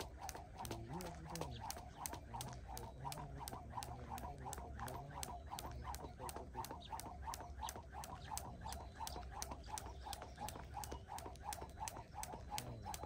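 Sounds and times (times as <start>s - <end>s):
skipping rope hitting ground: 0.0s - 13.0s.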